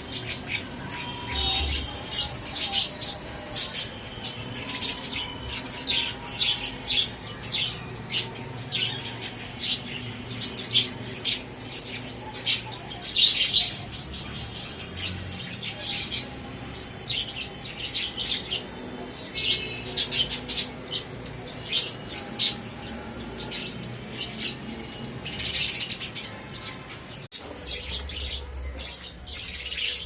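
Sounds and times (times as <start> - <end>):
budgerigars chirping: 0.0 - 30.0.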